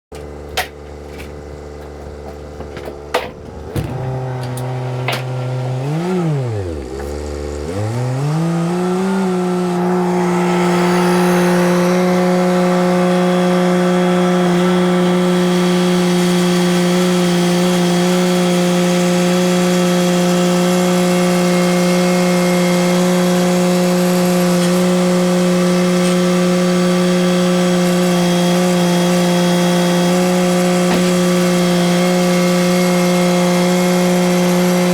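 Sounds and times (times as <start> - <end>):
engine running: 0.1 - 34.9.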